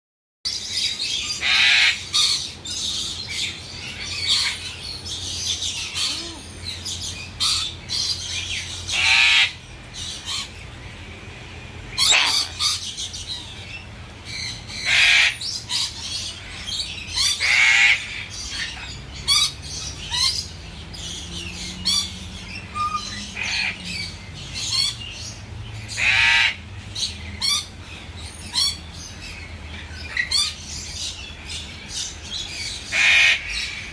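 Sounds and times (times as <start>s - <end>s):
parrot chirps and calls: 0.5s - 11.2s, 11.8s - 33.9s
parrots squawking: 0.8s - 10.8s, 11.8s - 31.3s, 32.2s - 33.9s.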